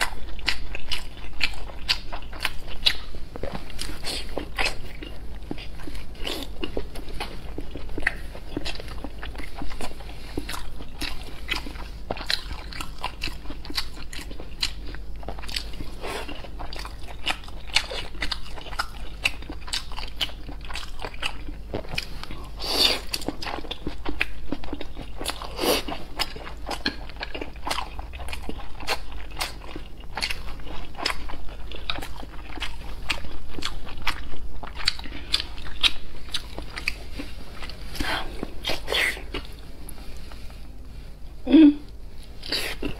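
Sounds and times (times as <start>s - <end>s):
close biting and chewing: 0.0s - 39.6s.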